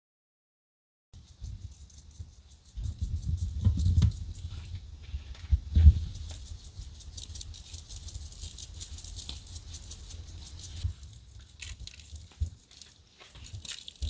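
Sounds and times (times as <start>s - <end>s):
spice grinder grinding: 1.2s - 4.7s, 6.0s - 14.0s.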